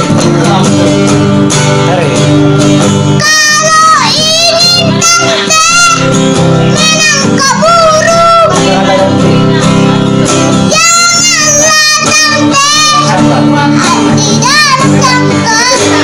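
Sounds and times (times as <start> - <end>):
strummed acoustic guitar: 0.0 - 16.0
boy singing: 2.8 - 16.0.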